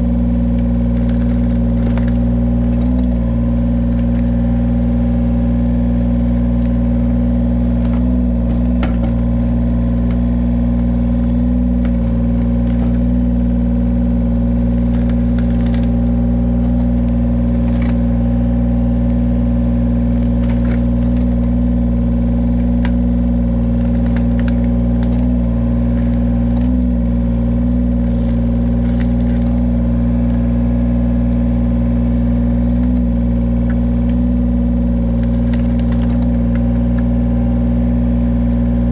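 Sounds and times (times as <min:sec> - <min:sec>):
wood splitter engine running: 0:00.0 - 0:38.9.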